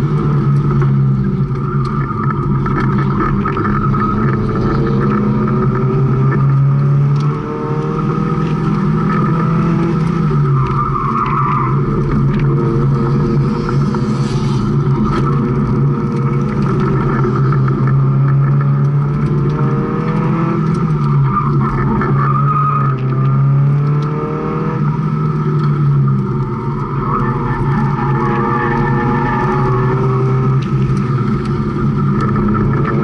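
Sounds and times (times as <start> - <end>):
car engine revving: 0.0 - 33.0
tires squealing: 0.0 - 33.0.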